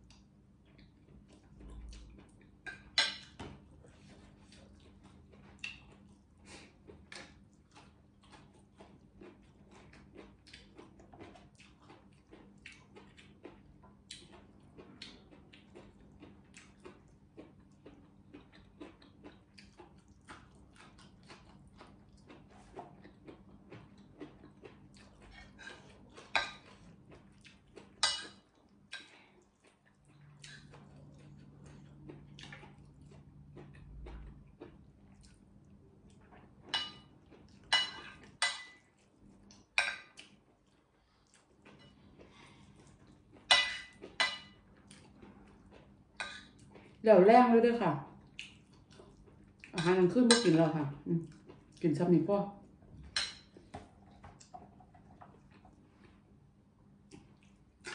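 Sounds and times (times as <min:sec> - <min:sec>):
soft chewing and mouth clicks: 0:00.0 - 0:47.0, 0:48.0 - 0:51.9, 0:52.5 - 0:57.9
faint steady hum: 0:00.0 - 0:57.9.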